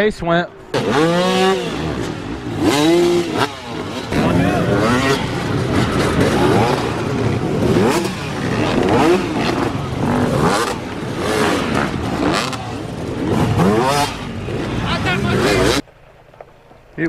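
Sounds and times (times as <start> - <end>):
dirt bike engines revving: 0.0 - 15.9.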